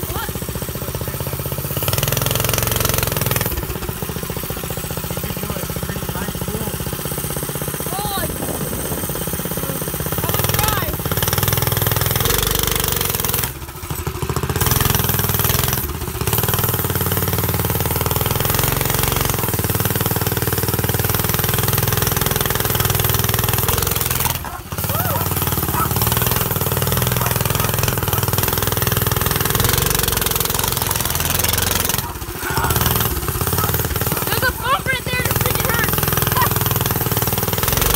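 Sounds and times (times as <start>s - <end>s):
go-kart engine rumbling: 0.0s - 37.9s.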